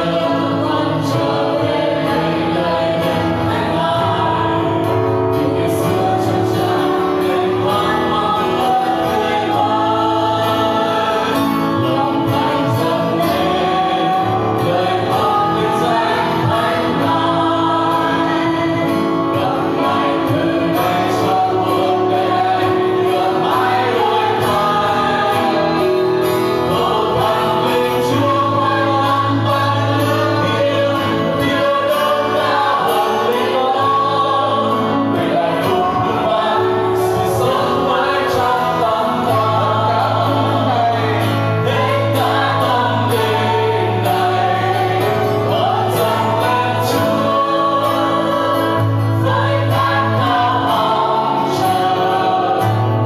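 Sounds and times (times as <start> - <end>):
acoustic guitar: 0.0 - 53.0
congregation singing: 0.0 - 53.0
singers on microphones: 0.0 - 53.0.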